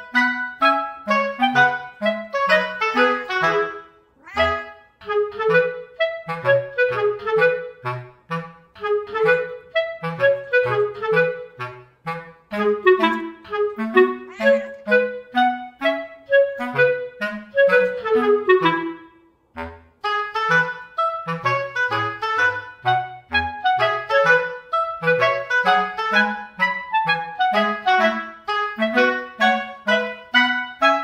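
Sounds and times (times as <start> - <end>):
light woodwind tune: 0.0 - 31.0.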